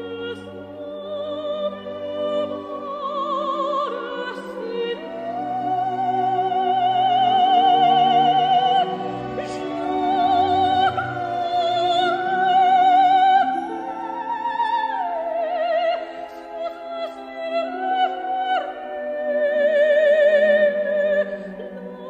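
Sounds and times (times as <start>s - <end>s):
operatic voice singing: 0.0s - 22.0s
sustained instrumental accompaniment: 0.0s - 22.0s.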